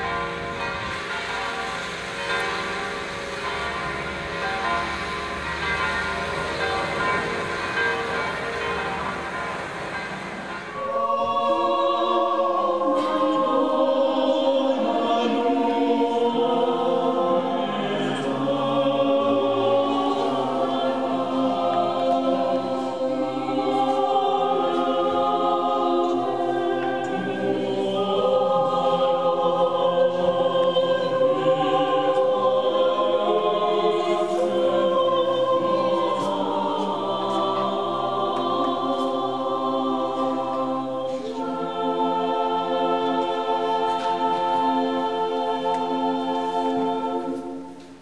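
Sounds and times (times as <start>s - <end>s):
choir singing sacred music: 0.0s - 48.0s.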